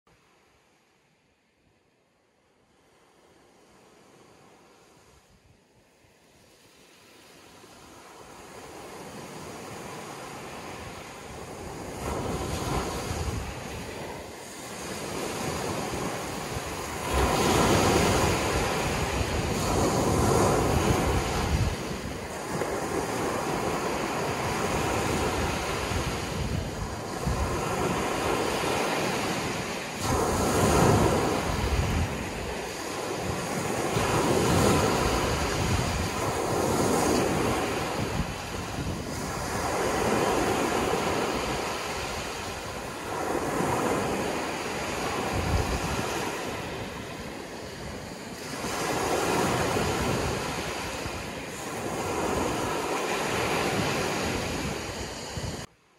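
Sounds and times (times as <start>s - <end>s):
ocean waves breaking: 5.9s - 55.7s.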